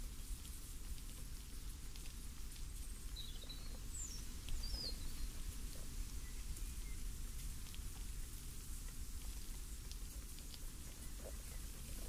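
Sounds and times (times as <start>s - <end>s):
leaves rustling: 0.0s - 12.0s
steady breeze: 0.0s - 12.0s.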